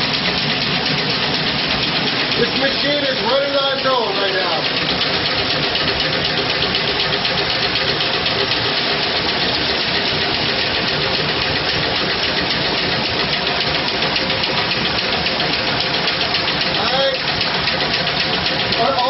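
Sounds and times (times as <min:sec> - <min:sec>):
water-wheel generator running: 0:00.0 - 0:19.0.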